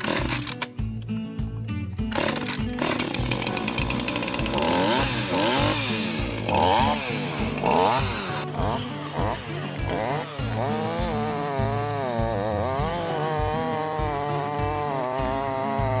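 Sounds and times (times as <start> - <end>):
chainsaw revving: 0.0 - 0.7, 2.0 - 16.0
background music: 0.0 - 16.0.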